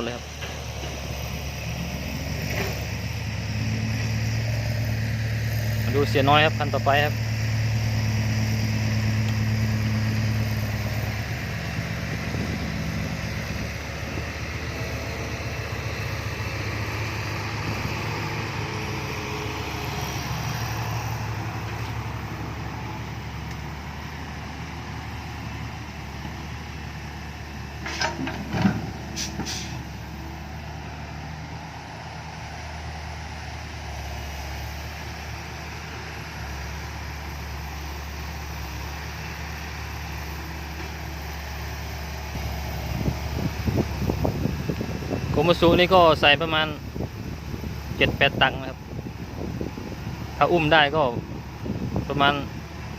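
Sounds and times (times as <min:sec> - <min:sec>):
truck diesel engine running: 0:00.0 - 0:52.9.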